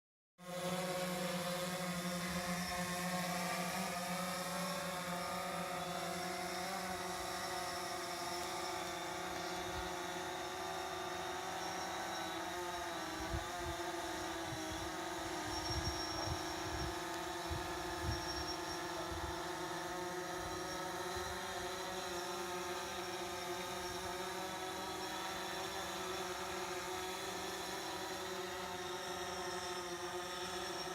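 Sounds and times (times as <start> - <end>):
drone propellers buzzing: 0.4 - 30.9.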